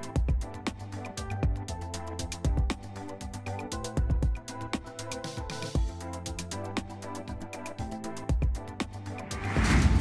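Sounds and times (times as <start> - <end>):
background music with bass and beat: 0.0 - 10.0.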